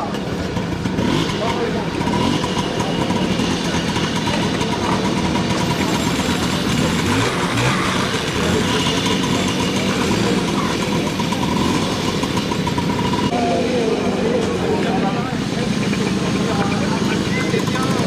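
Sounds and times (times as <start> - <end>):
moped engine running: 0.0 - 18.0.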